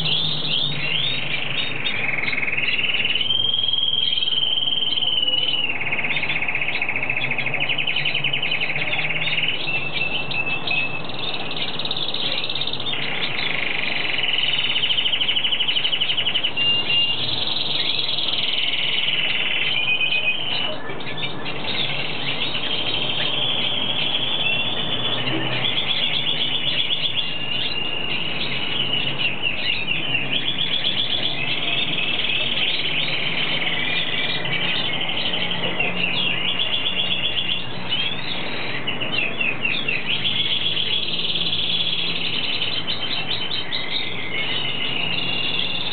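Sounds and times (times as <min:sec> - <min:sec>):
bird twittering trills: 0:00.0 - 0:45.9.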